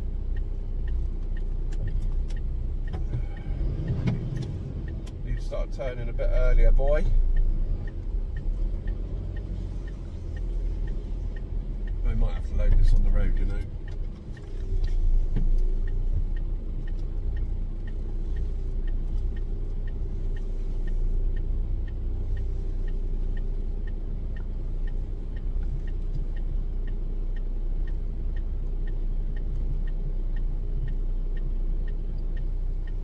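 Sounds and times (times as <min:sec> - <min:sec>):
diesel truck engine running: 0:00.0 - 0:33.0
turn signal ticking: 0:00.0 - 0:33.0.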